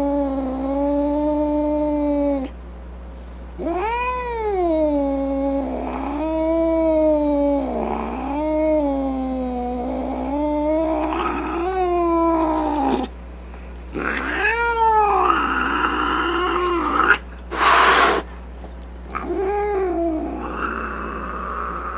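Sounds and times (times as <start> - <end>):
cat yowling: 0.0 - 2.5, 3.6 - 13.1, 14.0 - 18.3, 19.1 - 21.9.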